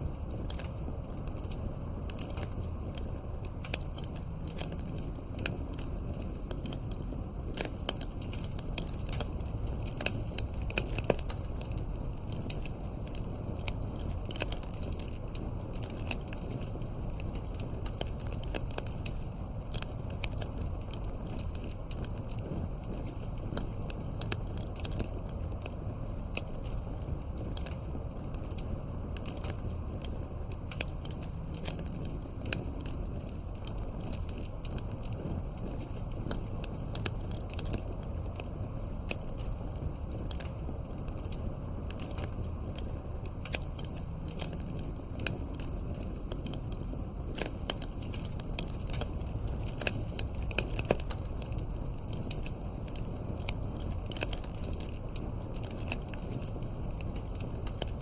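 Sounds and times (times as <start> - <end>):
campfire wood crackling and popping: 0.0 - 58.0
low fire rumble: 0.0 - 58.0.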